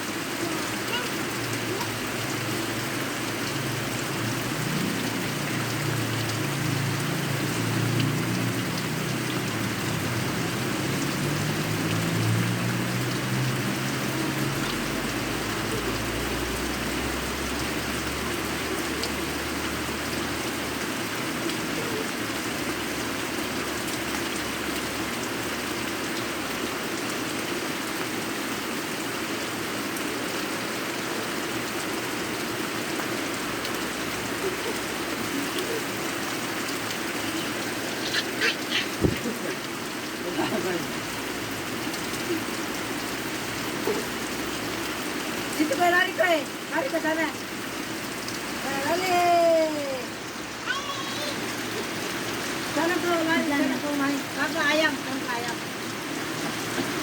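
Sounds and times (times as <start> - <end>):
rain hitting ground: 0.0 - 57.0.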